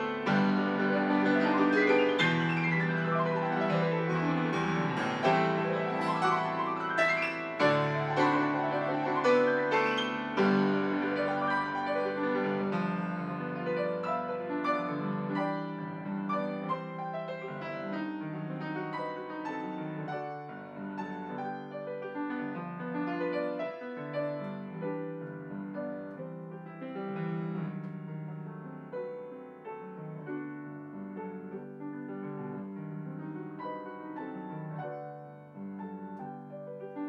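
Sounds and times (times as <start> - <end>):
classical piano music: 0.0 - 37.0.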